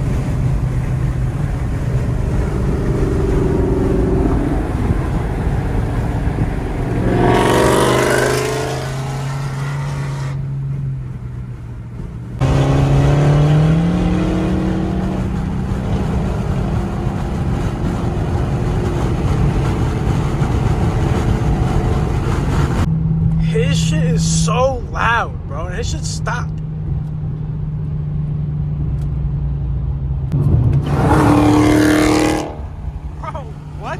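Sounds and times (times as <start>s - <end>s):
car engine revving: 0.0s - 27.4s, 28.2s - 33.9s.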